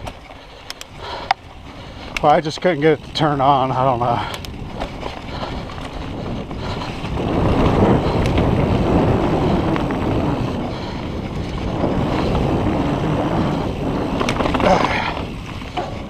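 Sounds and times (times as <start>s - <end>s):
wind rushing over microphone: 0.9s - 16.0s.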